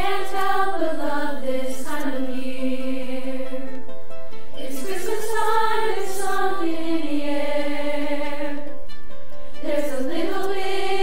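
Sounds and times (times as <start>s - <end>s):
choir singing sustained chord: 0.0s - 3.9s, 4.5s - 11.0s.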